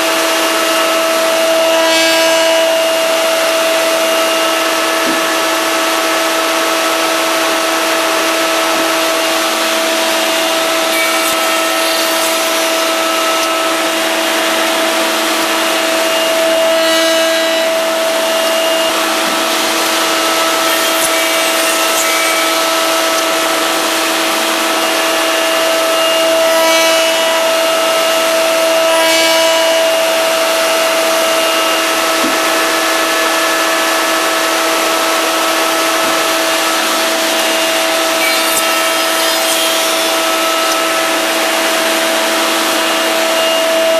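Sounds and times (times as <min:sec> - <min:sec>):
cutters machining wood: 0:00.0 - 0:43.9
machine spindles whining: 0:00.0 - 0:43.9.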